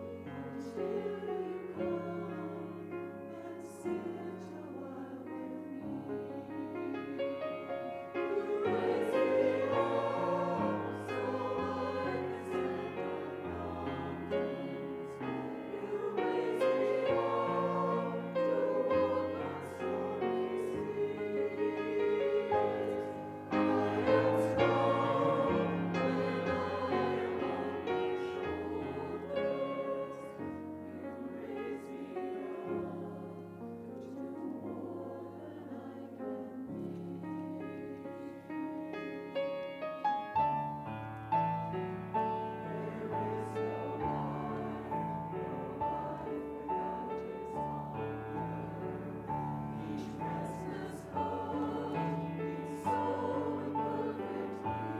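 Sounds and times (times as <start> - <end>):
choir singing a hymn: 0.0 - 54.9.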